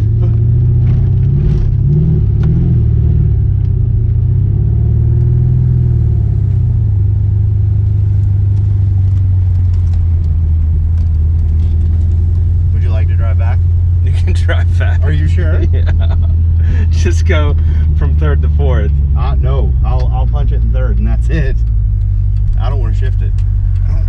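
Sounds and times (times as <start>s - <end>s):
car engine rumble: 0.0s - 24.0s.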